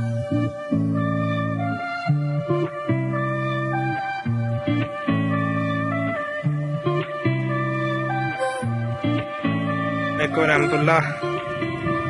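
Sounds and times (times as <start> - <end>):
plucked guitar music: 0.0 - 12.0.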